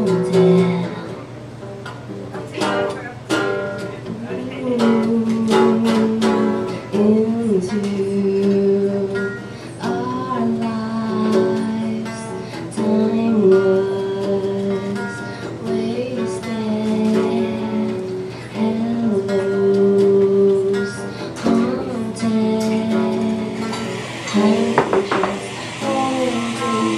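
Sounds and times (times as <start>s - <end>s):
electric guitar through amplifier: 0.0s - 26.9s
person singing long notes: 4.4s - 26.9s.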